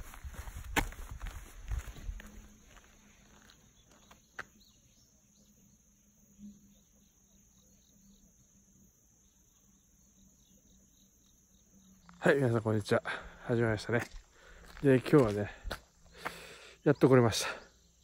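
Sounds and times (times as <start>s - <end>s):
insects chirping: 0.0s - 18.0s
high-pitched insect trill: 1.7s - 16.2s.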